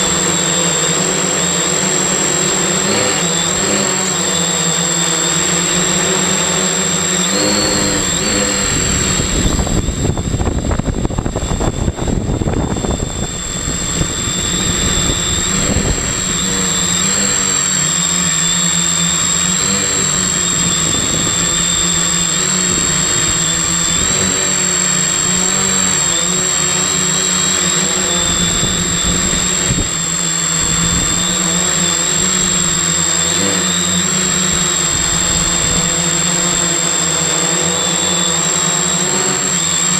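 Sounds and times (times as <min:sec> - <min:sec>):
drone propellers whirring: 0:00.0 - 0:39.9
high steady whine: 0:00.0 - 0:39.9.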